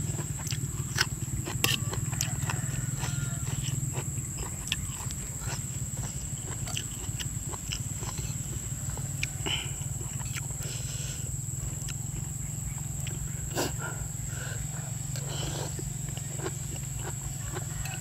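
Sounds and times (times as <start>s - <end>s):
chewing and crunching: 0.0s - 18.0s.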